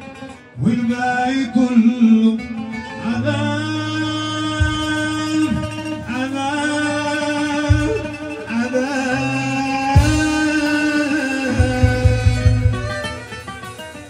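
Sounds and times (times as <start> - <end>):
string accompaniment: 0.0 - 14.0
man singing through a pa: 0.6 - 12.9.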